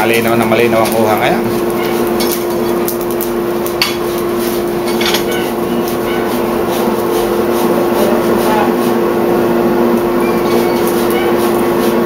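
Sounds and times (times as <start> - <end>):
steady forge hum: 0.0 - 12.0.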